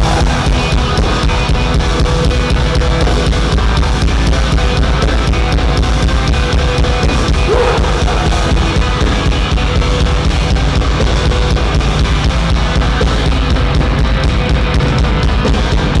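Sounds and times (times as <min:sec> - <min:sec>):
distorted electric guitars: 0:00.0 - 0:16.0
fast driving drum kit: 0:00.0 - 0:16.0.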